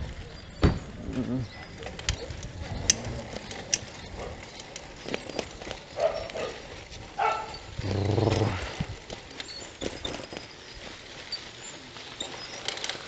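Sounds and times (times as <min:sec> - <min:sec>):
bicycle rattling on dirt road: 0:00.0 - 0:13.0.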